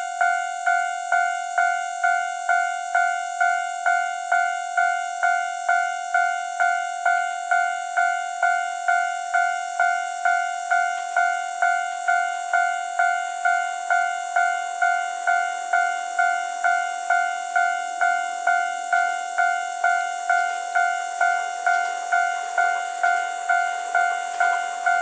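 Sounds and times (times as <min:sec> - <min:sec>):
level-crossing bell ringing: 0:00.0 - 0:25.0.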